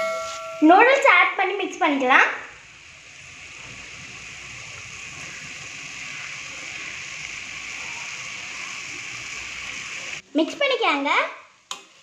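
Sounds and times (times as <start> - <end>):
vegetables sizzling: 0.0 - 10.2.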